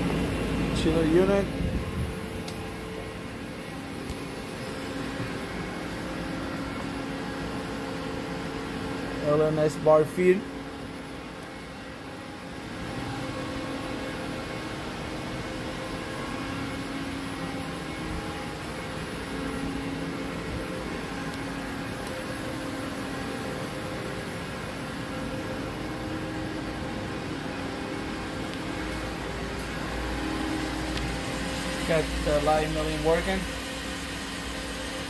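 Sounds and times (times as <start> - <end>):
machine humming and whirring: 0.0 - 35.0
steady tones: 0.0 - 35.0.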